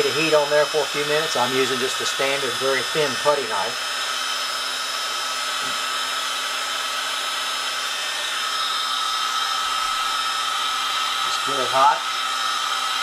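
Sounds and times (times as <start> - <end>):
heat gun fan hiss and whine: 0.0 - 13.0.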